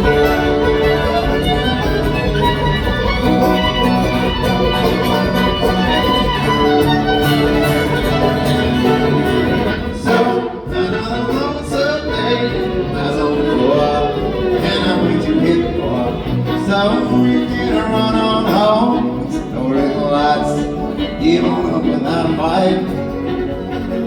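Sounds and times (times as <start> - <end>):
live bluegrass band playing: 0.0 - 24.0.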